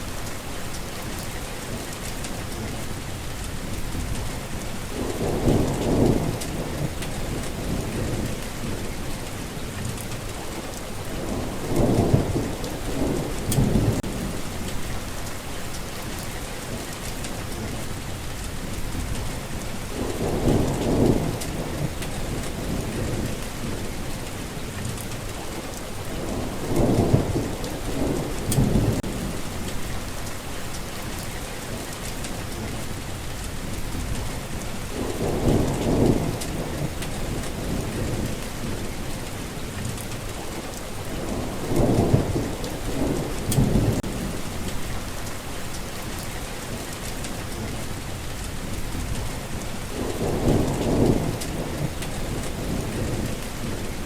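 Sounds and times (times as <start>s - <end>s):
rain falling: 0.0s - 54.0s
thunder rumble: 3.5s - 17.8s, 18.5s - 25.3s, 26.0s - 54.0s.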